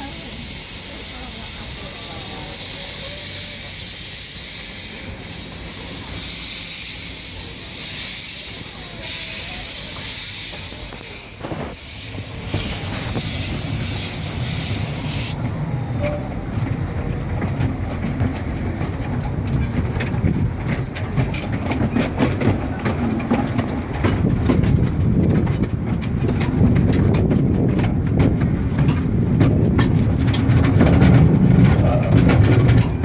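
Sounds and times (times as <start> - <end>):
steam locomotive venting steam: 0.0 - 33.0
train rumbling on rails: 0.0 - 33.0.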